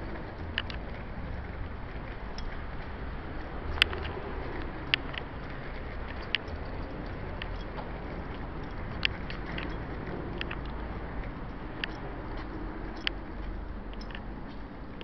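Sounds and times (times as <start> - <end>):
street background noise: 0.0 - 15.0
sharp clicks: 1.8 - 15.0.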